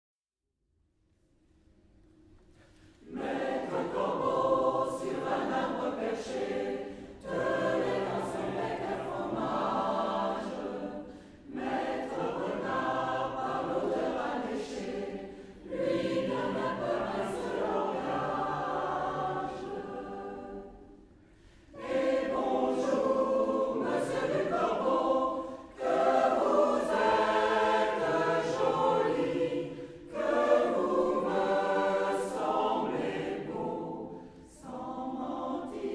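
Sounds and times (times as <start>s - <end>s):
choir singing: 3.0s - 35.9s.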